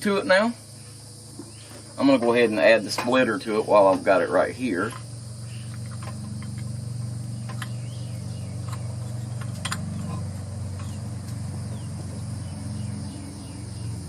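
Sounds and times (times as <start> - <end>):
insects chirring: 0.0 - 14.0
low machine hum: 0.0 - 14.0.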